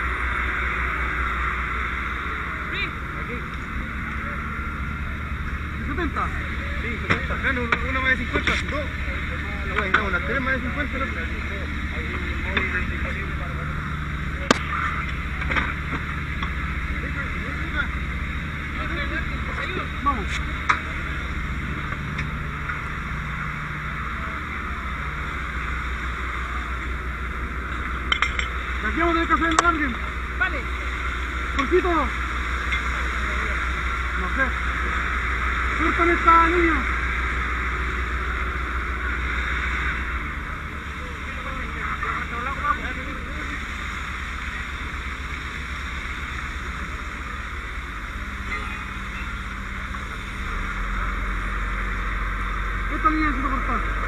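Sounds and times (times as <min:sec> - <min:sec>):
engine droning: 0:00.0 - 0:54.0
low steady hum: 0:00.0 - 0:54.0.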